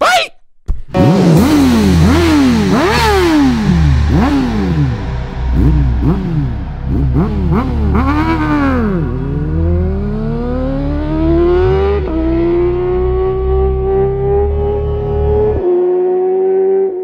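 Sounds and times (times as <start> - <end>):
motorcycle engine revving: 1.0 - 17.0.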